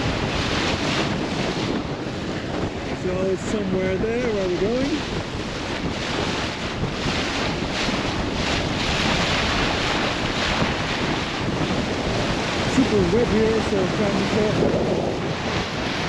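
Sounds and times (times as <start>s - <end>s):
choppy water splashing: 0.0s - 16.0s
wind buffeting microphone: 0.0s - 16.0s.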